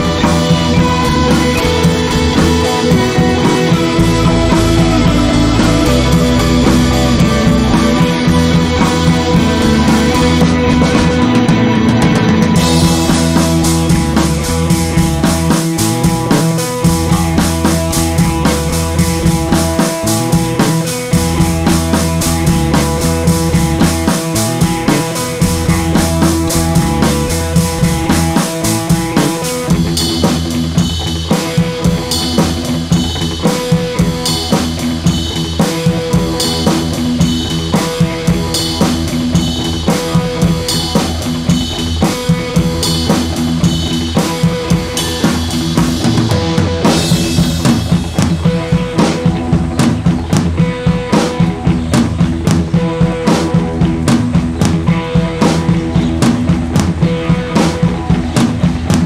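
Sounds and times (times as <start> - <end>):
drum-kit beat with held notes: 0.0 - 59.0.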